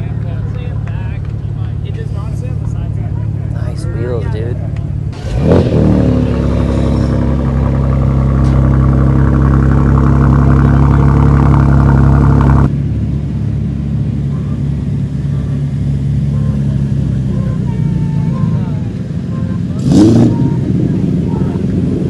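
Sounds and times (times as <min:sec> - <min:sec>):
car engine revving: 0:00.7 - 0:22.0.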